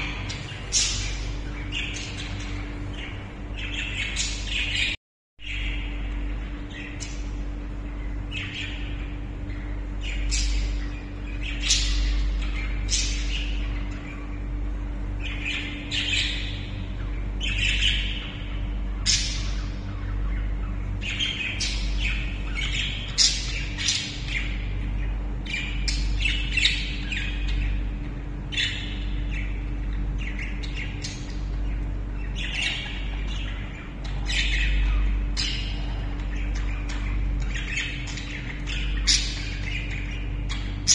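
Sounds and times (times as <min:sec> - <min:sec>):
birds squawking and chirping: 0:00.0 - 0:40.9
low hum: 0:00.0 - 0:40.9.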